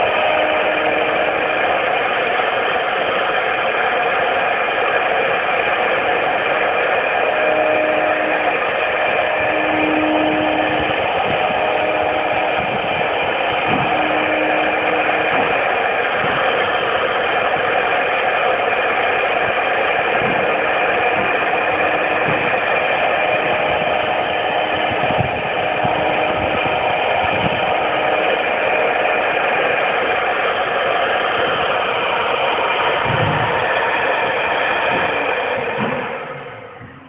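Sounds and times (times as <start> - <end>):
router machine whining: 0.0 - 37.0.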